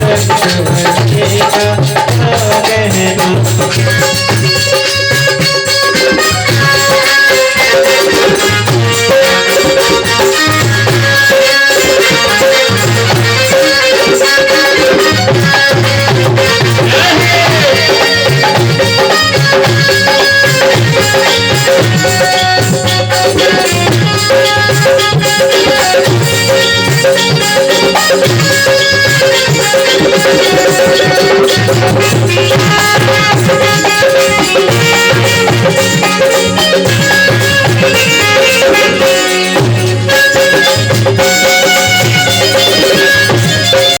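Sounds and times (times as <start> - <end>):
devotional group music: 0.0 - 44.0
hand drums: 0.0 - 44.0
rattling percussion: 0.0 - 44.0.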